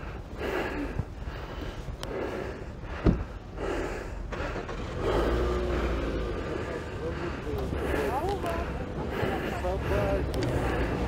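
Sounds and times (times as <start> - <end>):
outdoor background noise: 0.0 - 11.0
indistinct voices: 2.0 - 11.0.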